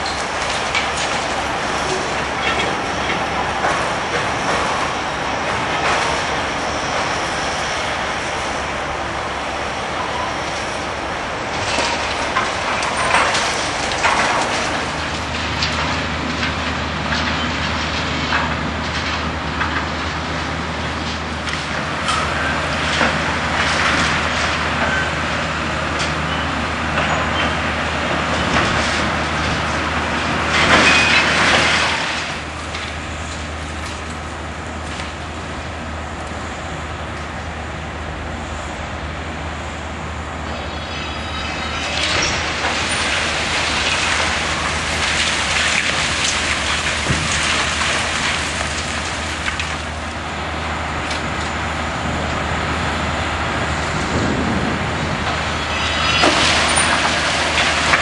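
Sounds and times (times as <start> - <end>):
heavy machinery engine rumble: 0.0 - 58.0.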